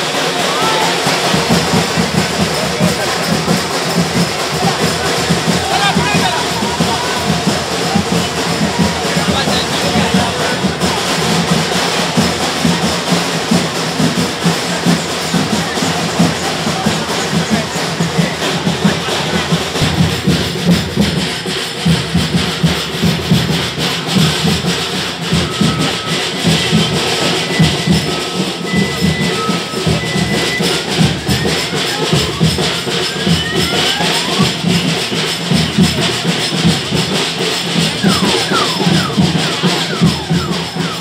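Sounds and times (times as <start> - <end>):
crowd: 0.0 - 41.0
rhythmic drumming: 0.0 - 41.0.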